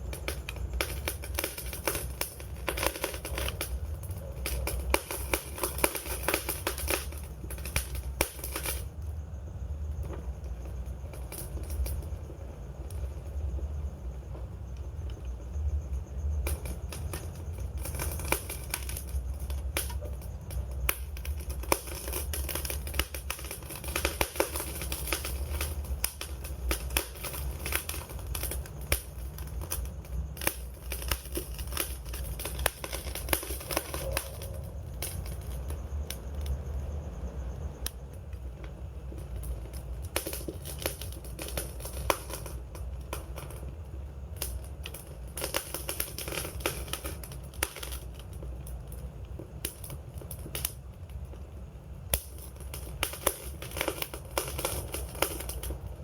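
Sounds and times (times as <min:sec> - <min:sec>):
campfire crackling and popping: 0:00.0 - 0:13.7, 0:14.3 - 0:56.0.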